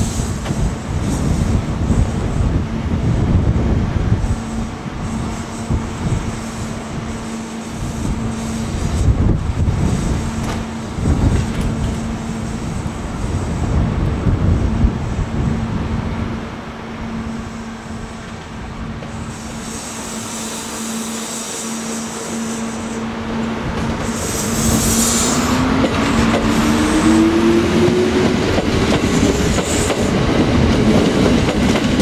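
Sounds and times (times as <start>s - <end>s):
train equipment humming: 0.0s - 32.0s.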